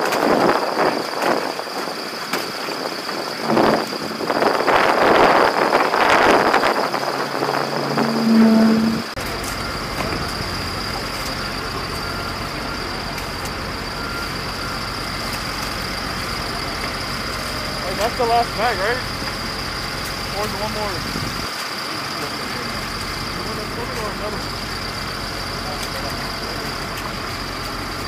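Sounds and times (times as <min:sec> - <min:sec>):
dry mix pouring with rushing hiss: 0:00.0 - 0:08.0, 0:09.0 - 0:28.0
heavy equipment idling hum: 0:00.0 - 0:28.0.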